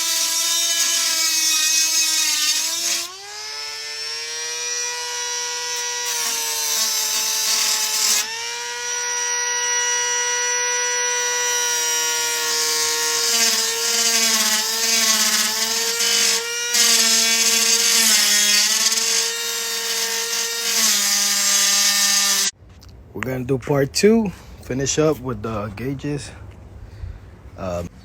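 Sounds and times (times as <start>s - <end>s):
electric drill with hole saw: 0.0s - 22.5s.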